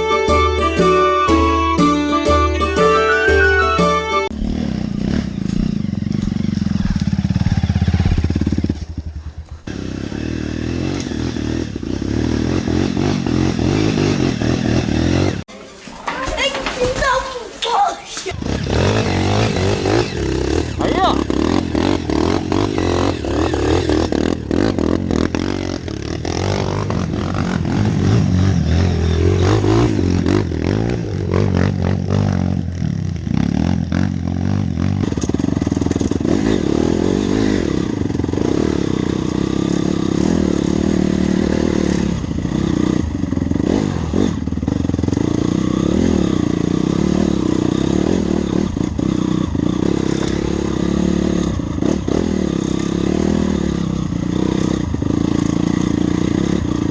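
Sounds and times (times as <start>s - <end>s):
dirt bike engine revving: 4.1s - 15.5s, 18.3s - 56.9s.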